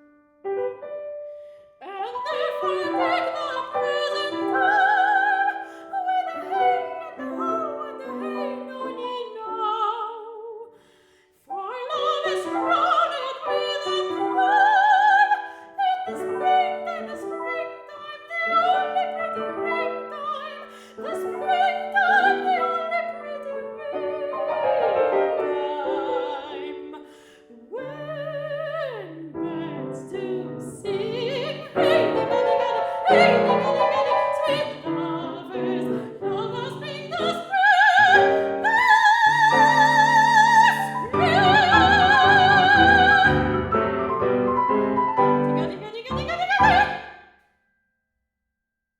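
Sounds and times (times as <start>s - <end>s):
piano accompaniment: 0.0s - 10.4s, 11.5s - 47.1s
soprano singing with vibrato: 1.8s - 10.8s, 11.4s - 44.0s, 45.2s - 47.2s.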